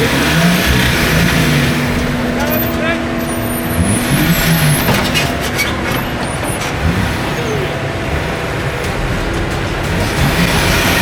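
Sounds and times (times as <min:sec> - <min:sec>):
faint voices: 0:00.0 - 0:11.0
vehicle engine running: 0:00.0 - 0:11.0.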